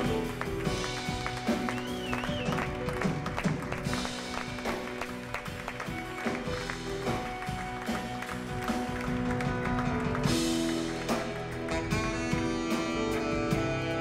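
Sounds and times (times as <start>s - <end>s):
instrumental music with held tones: 0.0s - 14.0s.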